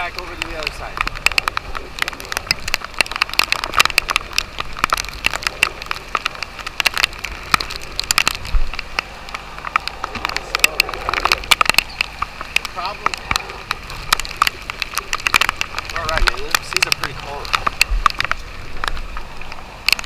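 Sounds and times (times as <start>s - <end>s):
heavy rain: 0.0s - 20.0s
raindrops striking: 0.0s - 20.0s.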